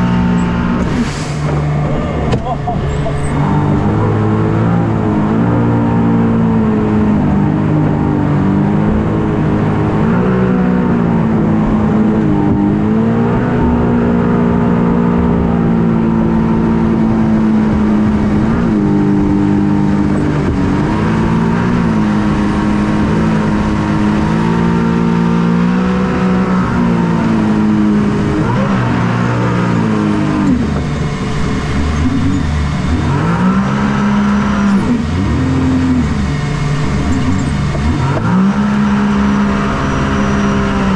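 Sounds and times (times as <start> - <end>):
watercraft engine revving: 0.0 - 40.9.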